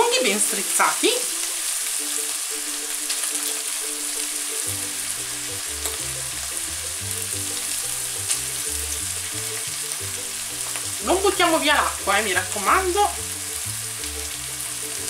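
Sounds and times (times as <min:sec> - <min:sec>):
meat sizzling in a pot: 0:00.0 - 0:15.0.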